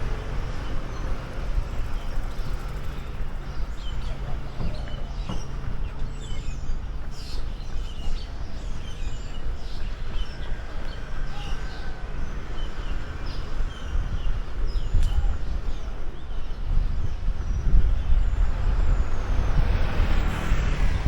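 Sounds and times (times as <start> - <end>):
birds chirping: 0.0 - 21.0
low outdoor rumble: 0.0 - 21.0.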